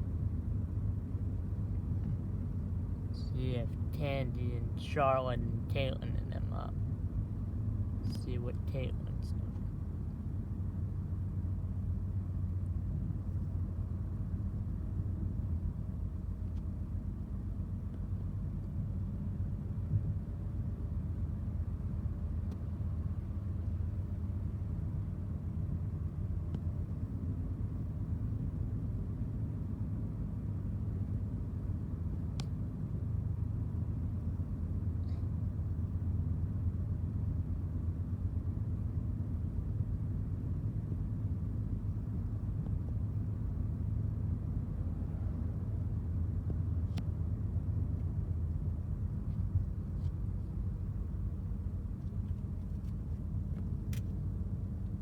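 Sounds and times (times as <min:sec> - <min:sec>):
car driving interior rumble: 0:00.0 - 0:55.0.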